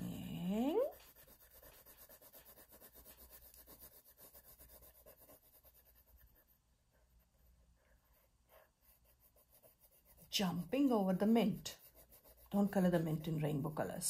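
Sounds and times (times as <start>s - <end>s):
pencil scratching on paper: 0.0s - 14.0s.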